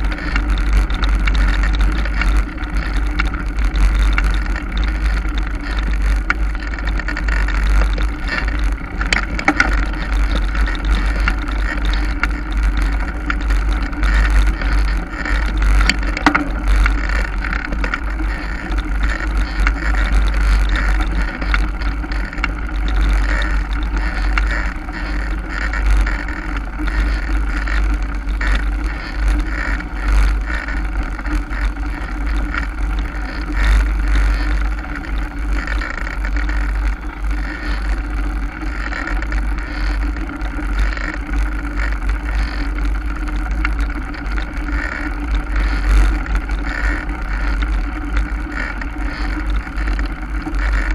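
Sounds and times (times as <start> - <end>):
mountain bike rattling: 0.0 - 50.9
wind rumbling over microphone: 0.0 - 50.9.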